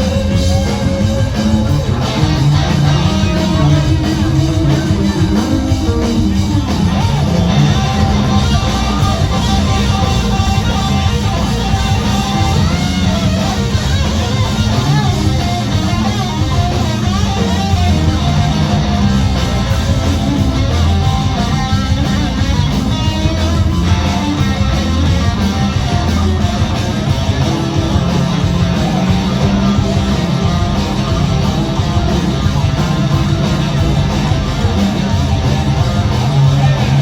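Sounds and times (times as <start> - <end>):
electric guitar: 0.0 - 37.0
live rock band playing: 0.0 - 37.0.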